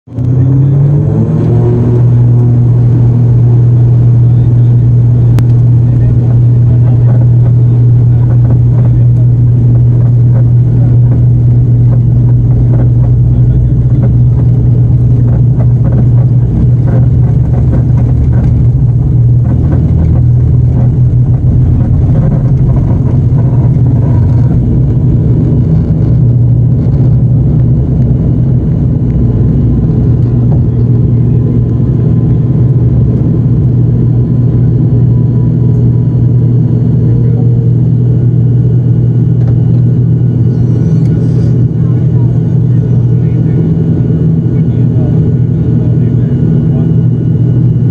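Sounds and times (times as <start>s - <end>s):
turboprop engine drone: 0.0s - 47.9s.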